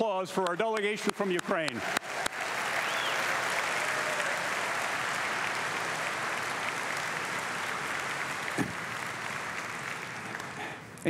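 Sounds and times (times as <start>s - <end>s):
audience applauding: 0.4s - 10.8s.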